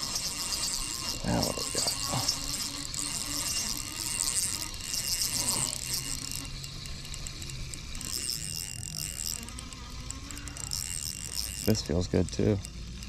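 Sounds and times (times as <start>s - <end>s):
fishing reel whirring and clicking: 0.0s - 13.0s.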